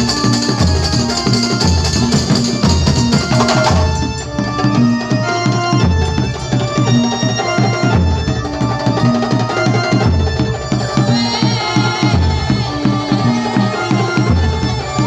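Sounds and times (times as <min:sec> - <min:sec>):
frame drums beating: 0:00.0 - 0:15.0
held melody line: 0:00.0 - 0:15.0.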